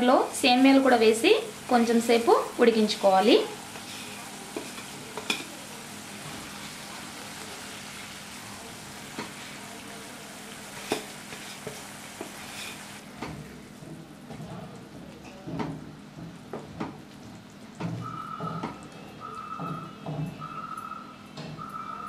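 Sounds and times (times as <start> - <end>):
water boiling in a pan: 0.0 - 19.2.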